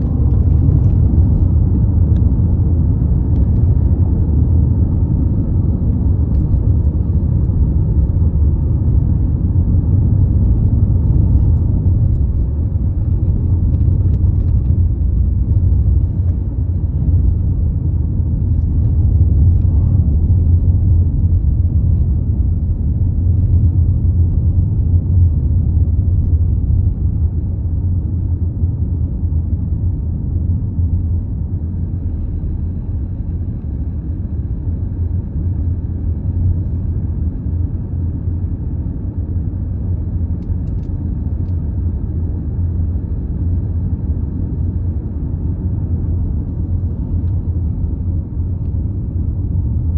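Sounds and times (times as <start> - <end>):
low rumble: 0.0 - 49.9.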